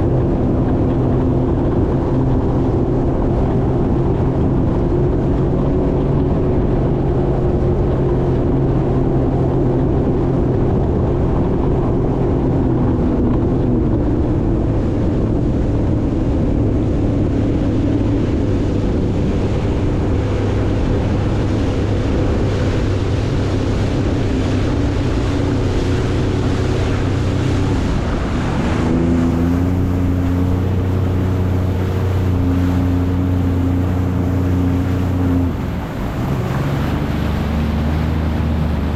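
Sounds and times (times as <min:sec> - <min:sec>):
jet ski engine running: 0:00.0 - 0:38.9
rushing water: 0:00.0 - 0:38.9
wind on microphone: 0:00.0 - 0:38.9.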